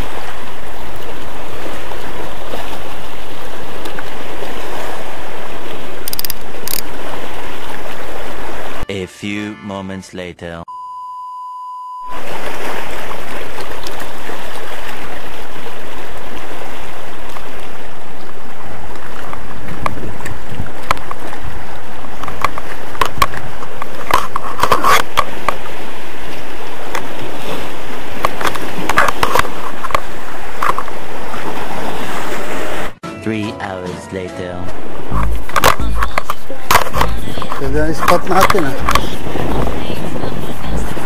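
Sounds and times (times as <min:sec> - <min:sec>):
surf: 0:00.0 - 0:09.9, 0:11.9 - 0:41.0
sea wind: 0:00.0 - 0:10.0, 0:10.7 - 0:41.0.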